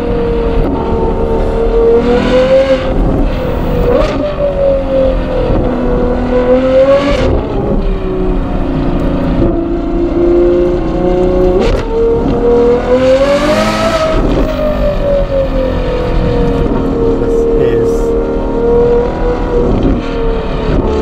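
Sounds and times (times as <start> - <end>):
sports car engine revving: 0.0 - 21.0.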